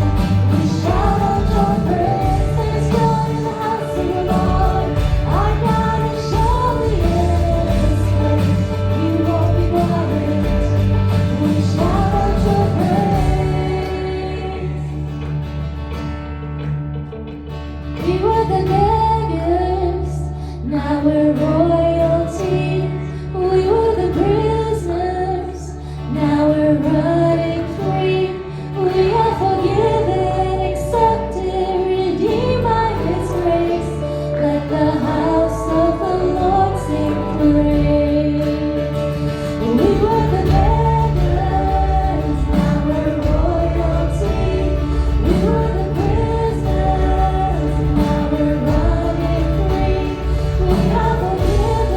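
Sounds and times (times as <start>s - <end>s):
person singing: 0.0s - 15.4s, 18.0s - 51.9s
sustained instrumental chords: 0.0s - 18.0s, 28.3s - 51.9s.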